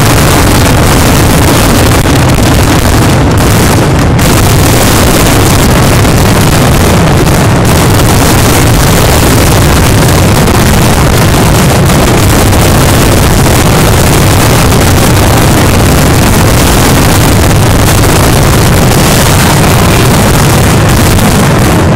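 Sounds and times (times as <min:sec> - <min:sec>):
fireworks bursting: 0:00.0 - 0:21.9.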